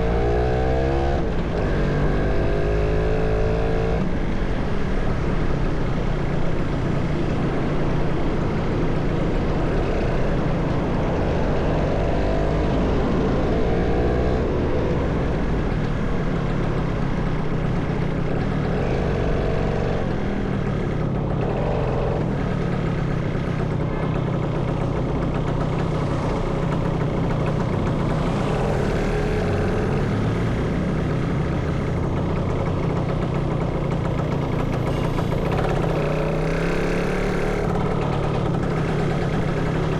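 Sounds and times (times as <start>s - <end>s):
motorcycle engine running: 0.0s - 39.9s
road and traffic noise: 0.0s - 39.9s.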